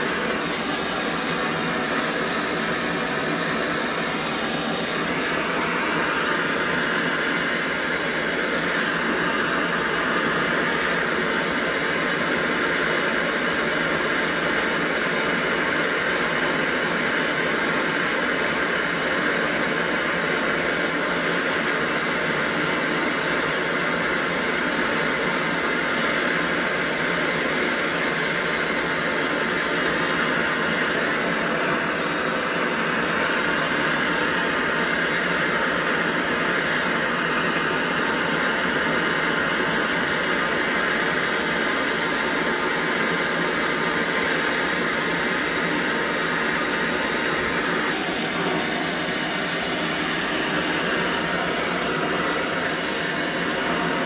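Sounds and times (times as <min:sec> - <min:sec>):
gas torch hissing flame: 0:00.0 - 0:54.0.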